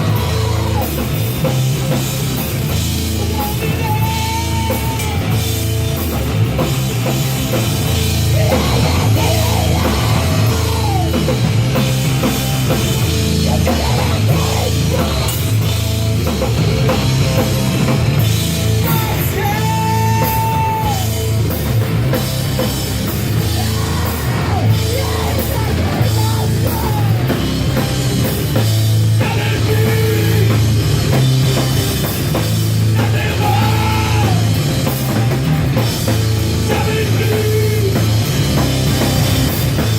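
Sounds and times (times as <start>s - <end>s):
drum kit: 0.0s - 39.9s
heavy rock band playing live: 0.0s - 39.9s.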